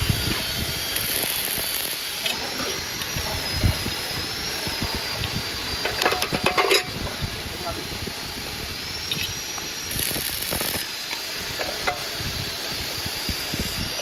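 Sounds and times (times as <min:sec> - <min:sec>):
motor running with high whine: 0:00.0 - 0:14.0.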